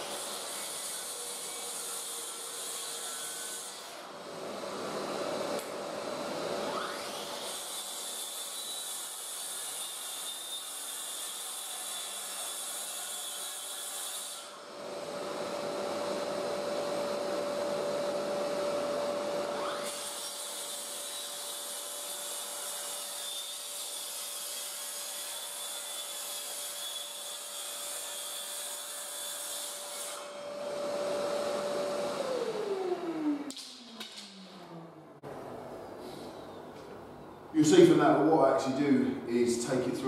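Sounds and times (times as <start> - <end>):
track saw cutting wood: 0.0 - 34.4.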